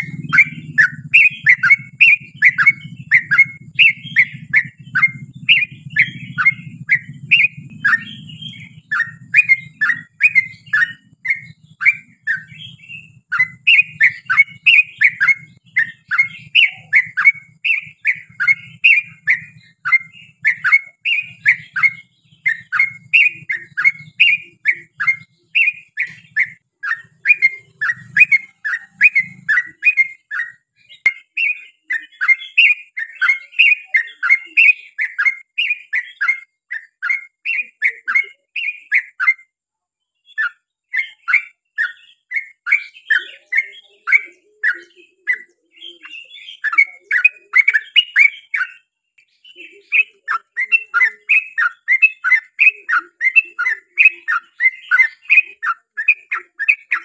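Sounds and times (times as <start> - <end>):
bird singing bubbly notes: 0.0 - 39.5, 40.3 - 57.0.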